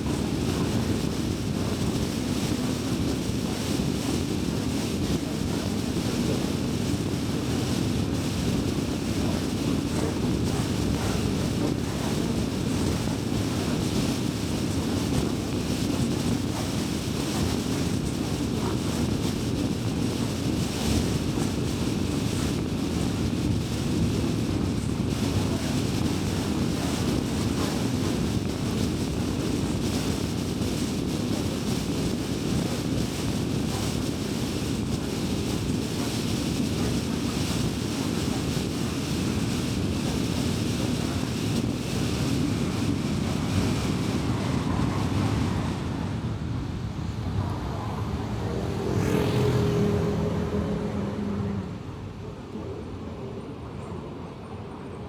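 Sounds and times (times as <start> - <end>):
road and tyre noise: 0.0 - 55.0.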